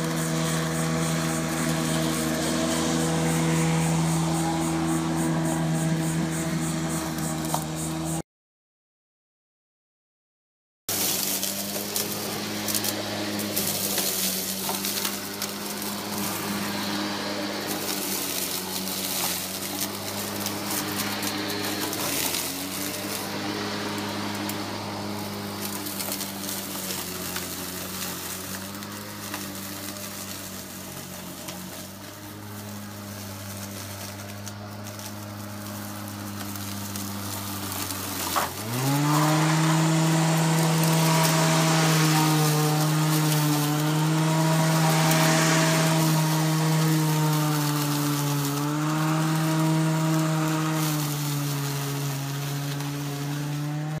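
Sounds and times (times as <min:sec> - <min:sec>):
electric lawn mower motor humming: 0:00.0 - 0:08.2, 0:10.9 - 0:54.0.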